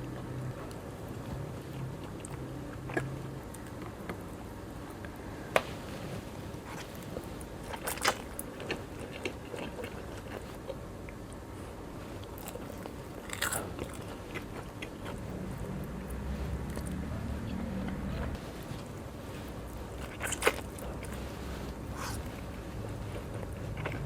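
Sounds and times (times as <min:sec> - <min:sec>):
biting and chewing: 0:00.0 - 0:05.2, 0:06.4 - 0:11.3, 0:12.2 - 0:17.1, 0:18.6 - 0:24.0.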